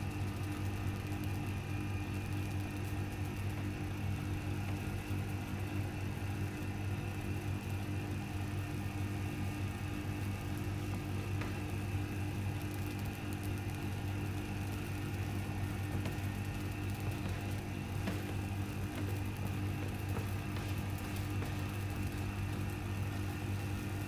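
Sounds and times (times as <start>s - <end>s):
electric motor and belt humming: 0.0s - 24.0s.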